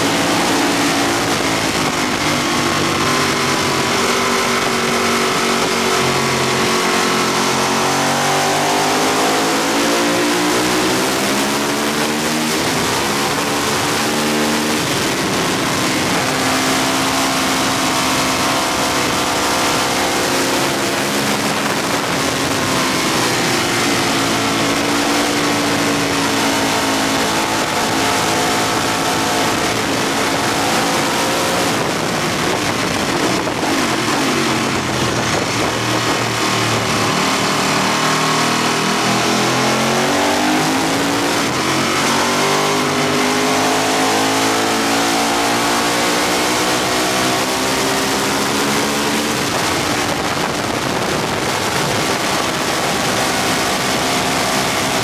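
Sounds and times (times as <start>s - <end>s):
heavy wind rush: 0.0s - 55.0s
motorcycle engine at speed: 0.0s - 55.0s.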